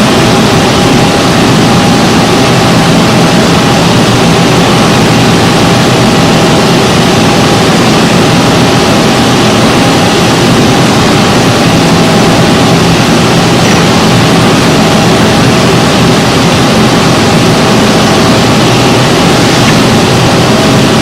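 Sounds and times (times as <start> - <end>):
faint machine whine: 0.0 - 21.0
milling machine running: 0.0 - 21.0.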